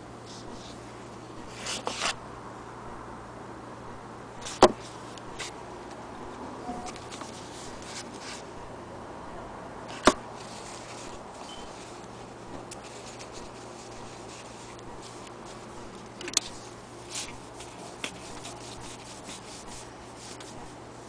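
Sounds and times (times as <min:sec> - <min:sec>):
faint background hum: 0:00.0 - 0:21.0.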